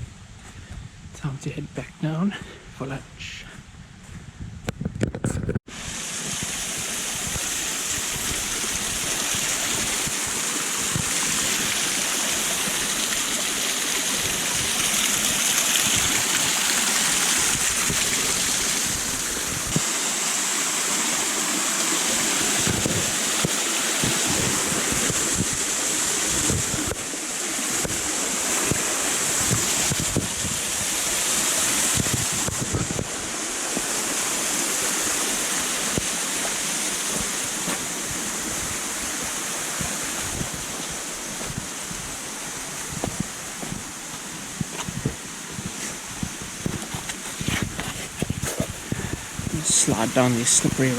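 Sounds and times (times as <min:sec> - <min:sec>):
stream and waterfall rushing: 0:05.7 - 0:50.9.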